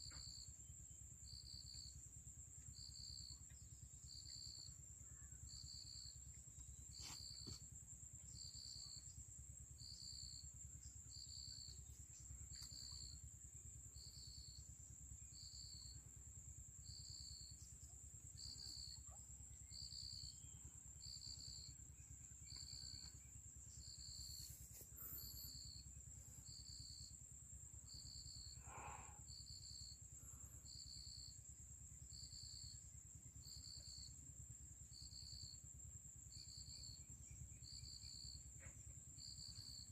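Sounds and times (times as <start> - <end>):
insect chirping: 0.0 - 39.9
insect high-pitched trill: 0.0 - 39.9.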